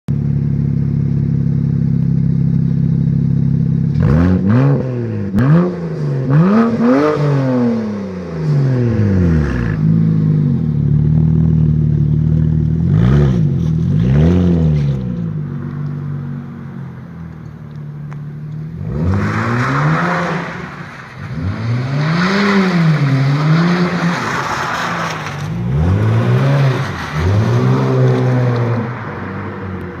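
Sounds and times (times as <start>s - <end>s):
car engine idling and revving: 0.1s - 30.0s.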